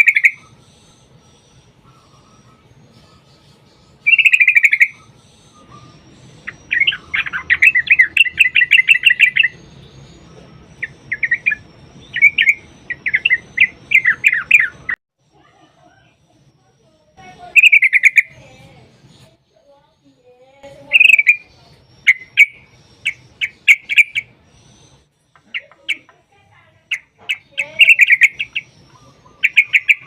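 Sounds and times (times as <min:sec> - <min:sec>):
bird singing in chattering trills: 0:00.0 - 0:30.0.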